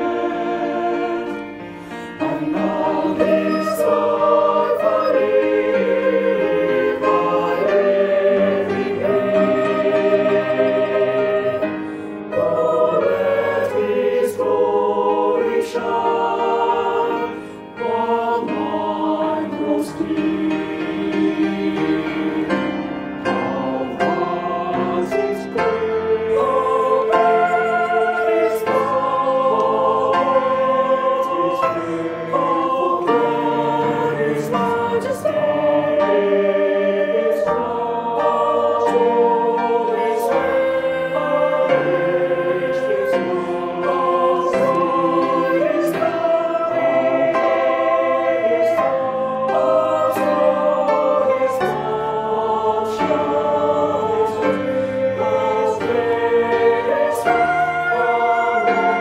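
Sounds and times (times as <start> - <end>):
choir singing a hymn in harmony: 0.0 - 59.0.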